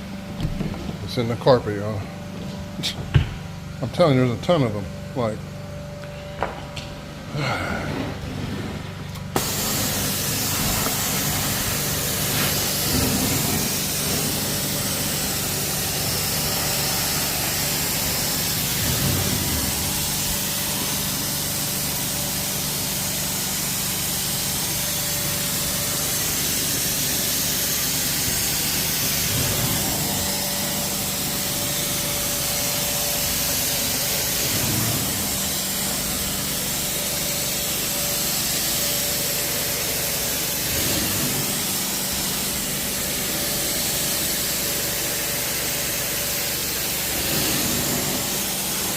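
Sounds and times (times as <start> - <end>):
low motor hum: 0.0 - 39.9
carpet extraction machine hissing: 7.3 - 48.9.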